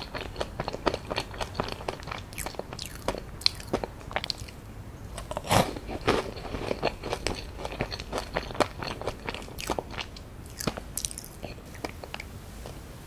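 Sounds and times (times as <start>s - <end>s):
person chewing crunchy cookie: 0.0s - 12.8s.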